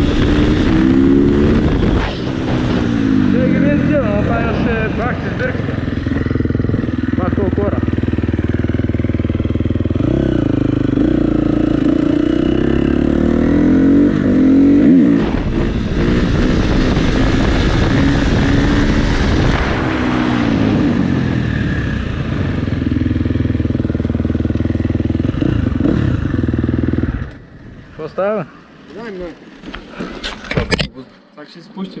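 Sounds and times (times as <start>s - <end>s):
dirt bike engine revving: 0.0s - 27.4s.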